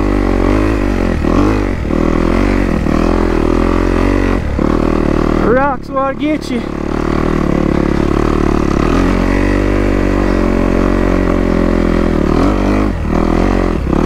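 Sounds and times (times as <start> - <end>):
dirt bike engine under load: 0.0 - 14.0.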